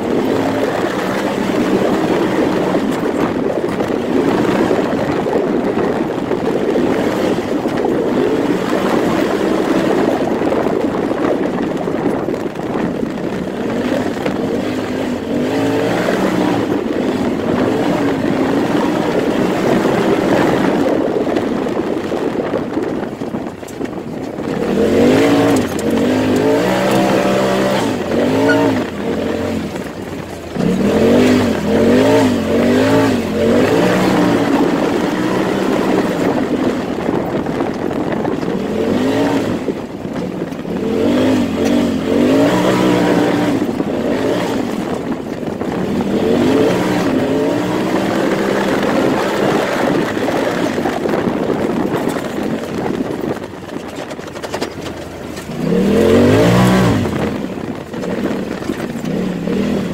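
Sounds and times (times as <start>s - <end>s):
engine revving: 0.0s - 22.8s, 24.3s - 53.4s, 54.0s - 59.9s.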